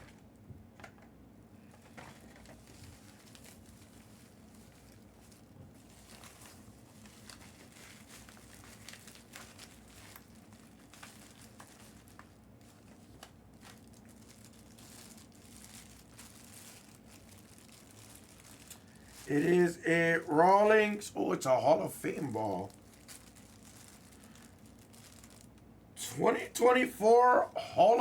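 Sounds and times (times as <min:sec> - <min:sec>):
packaging crinkling and tearing: 0:01.7 - 0:20.8, 0:21.8 - 0:25.7.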